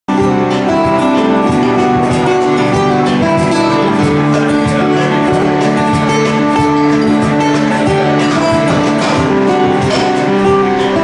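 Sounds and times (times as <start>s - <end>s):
acoustic guitar playing: 0.1s - 11.0s.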